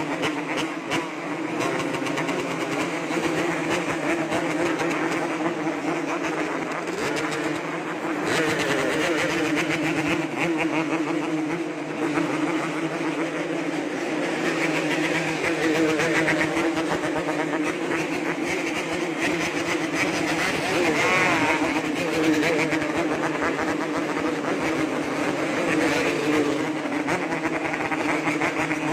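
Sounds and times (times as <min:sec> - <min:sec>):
two-stroke motorcycle engine revving: 0:00.0 - 0:28.9.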